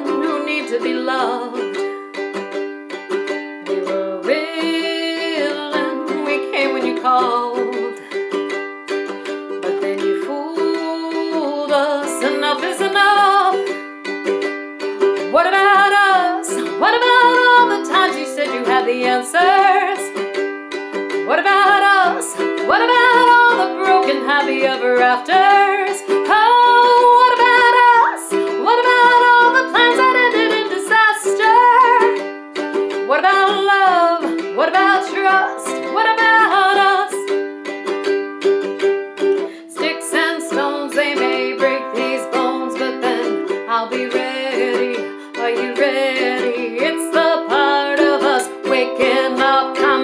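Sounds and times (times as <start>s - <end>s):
woman singing: 0.0s - 2.0s, 3.7s - 8.1s, 9.2s - 13.9s, 15.1s - 20.4s, 21.1s - 37.4s, 39.3s - 50.0s
strummed ukulele: 0.0s - 50.0s.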